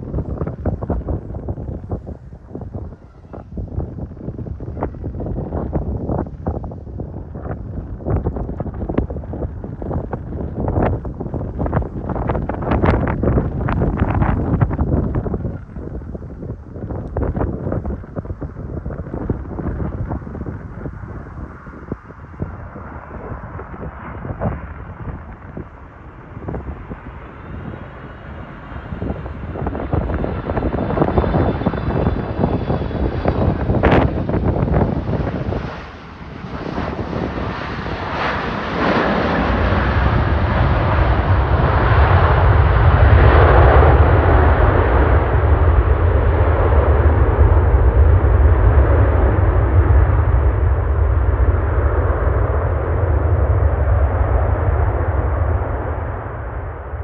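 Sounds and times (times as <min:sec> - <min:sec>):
jet engine deep rumble: 0:00.0 - 0:57.0
jet turbine whine: 0:00.0 - 0:57.0.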